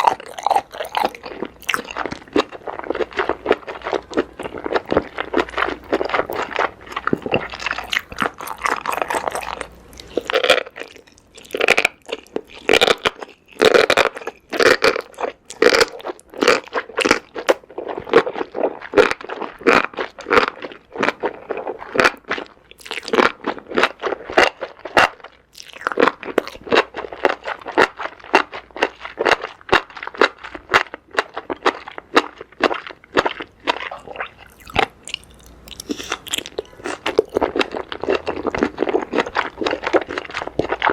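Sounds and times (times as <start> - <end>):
wet crunchy chewing: 0.0 - 40.9.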